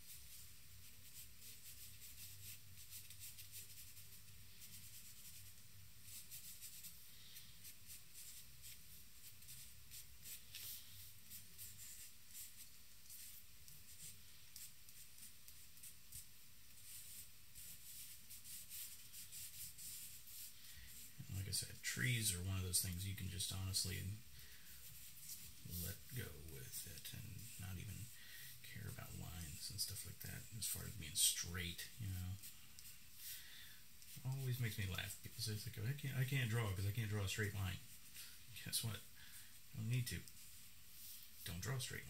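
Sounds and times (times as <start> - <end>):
charcoal scratching on paper: 0.0 - 21.6, 22.3 - 33.4, 34.0 - 38.3
low steady hum: 0.0 - 42.0.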